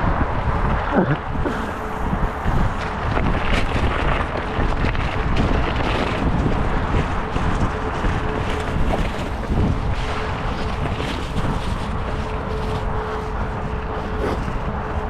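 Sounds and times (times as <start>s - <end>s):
bike tyres rolling on dirt: 0.0s - 15.0s
wind buffeting microphone: 0.0s - 15.0s.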